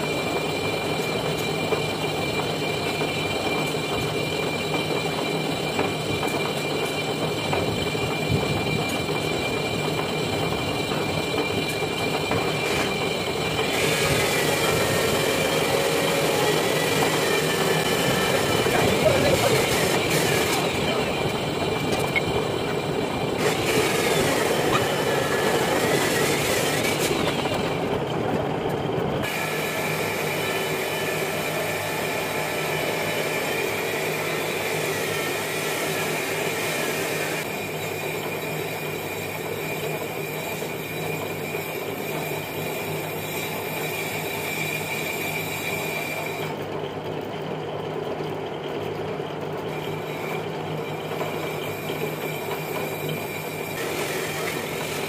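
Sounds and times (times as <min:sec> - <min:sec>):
high metallic cutting squeal: 0:00.0 - 0:27.8, 0:29.2 - 0:46.6, 0:49.7 - 0:55.0
lathe machine hum: 0:00.0 - 0:55.0.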